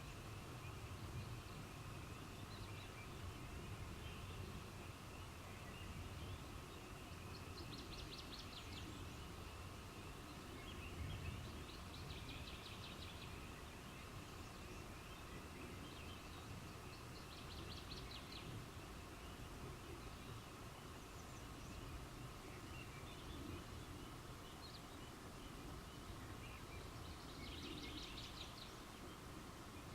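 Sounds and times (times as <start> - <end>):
faint night-time background: 0.0 - 29.9.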